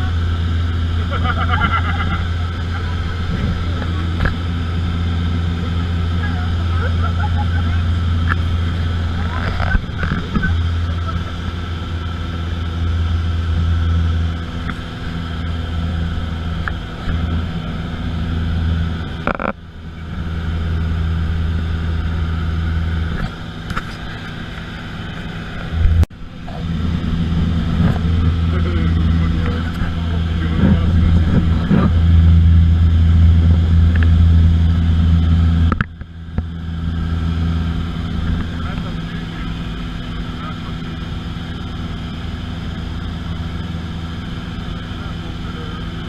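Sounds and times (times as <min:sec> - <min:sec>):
airplane engine drone: 0:00.0 - 0:46.0.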